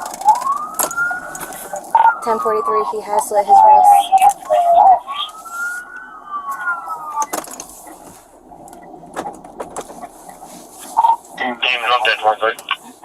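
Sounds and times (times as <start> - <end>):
emergency vehicle siren wailing: 0.0 - 12.4.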